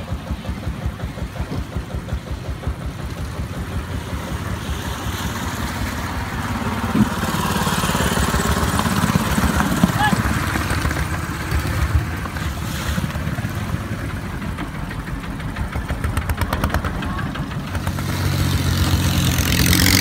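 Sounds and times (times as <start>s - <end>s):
boat engine chugging: 0.0s - 19.6s
rushing water: 0.0s - 20.0s.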